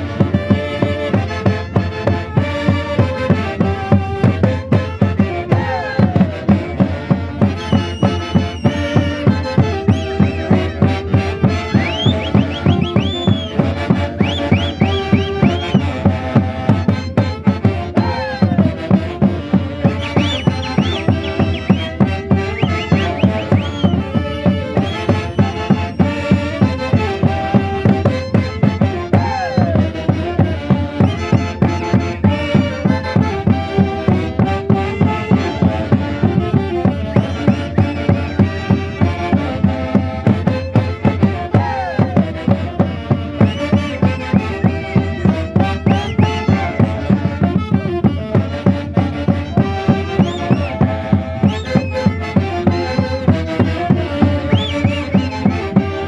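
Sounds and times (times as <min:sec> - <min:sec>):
live festival band playing: 0:00.0 - 0:56.0.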